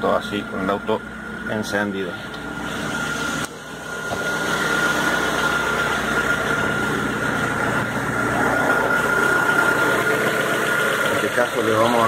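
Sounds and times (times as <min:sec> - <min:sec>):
car engine idling: 0:00.0 - 0:12.0
steady high whine: 0:00.3 - 0:12.0.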